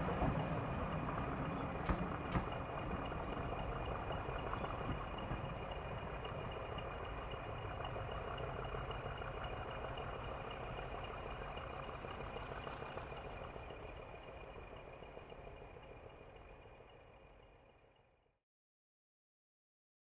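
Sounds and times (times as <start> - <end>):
diesel locomotive engine rumbling: 0.0 - 18.2.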